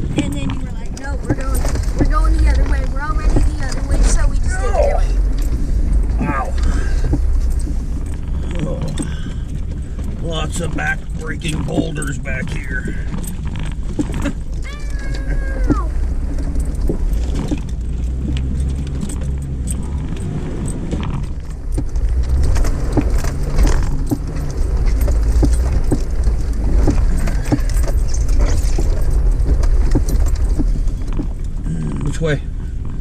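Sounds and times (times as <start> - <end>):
body rattles and clunks: 0.0 - 33.0
low engine drone: 2.2 - 33.0.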